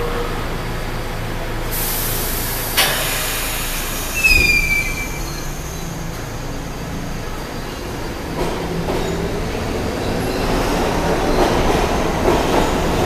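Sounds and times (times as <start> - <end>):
train wheels squealing on rails: 1.8 - 13.0.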